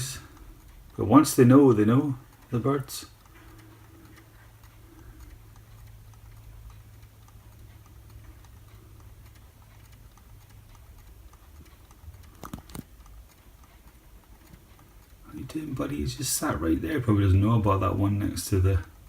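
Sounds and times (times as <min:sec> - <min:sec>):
faint small ticks: 0:00.2 - 0:15.8.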